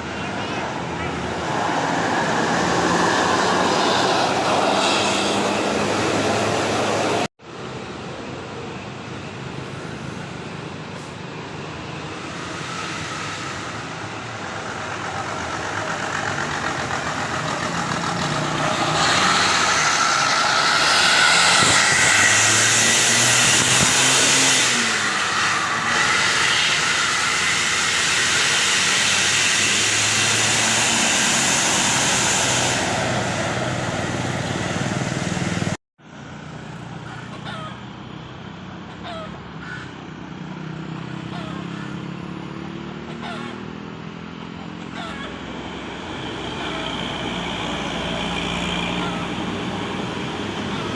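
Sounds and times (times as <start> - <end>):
road vehicle passing: 0.0 - 50.9.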